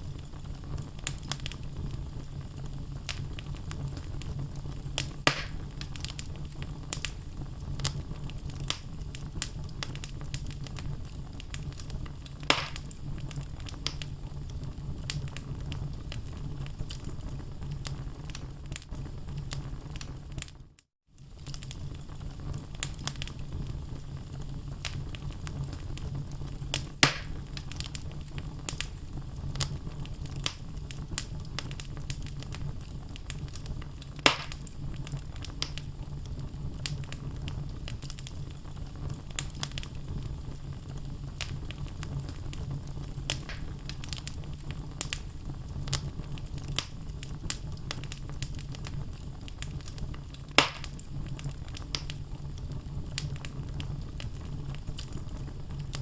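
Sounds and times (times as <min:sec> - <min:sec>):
loud fire pops: 0:00.0 - 0:20.6, 0:21.2 - 0:56.0
logs crackling in fireplace: 0:00.0 - 0:56.0
low rumble of flames: 0:00.0 - 0:56.0.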